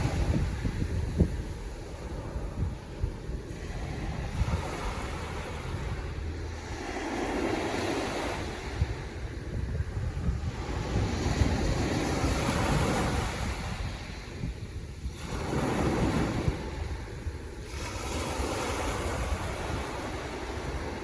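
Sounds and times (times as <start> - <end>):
waves breaking: 0.0 - 21.0.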